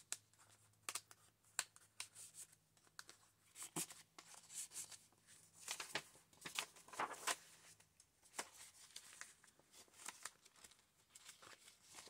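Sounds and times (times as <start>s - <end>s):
paper pages rustling: 0.4s - 12.0s.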